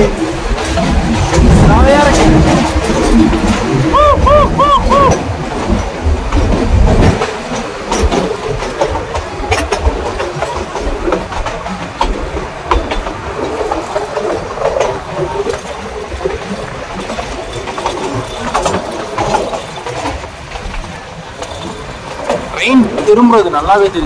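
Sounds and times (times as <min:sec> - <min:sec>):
train running rumble: 0:00.0 - 0:24.0
wheels and carriage rattling: 0:00.0 - 0:24.0.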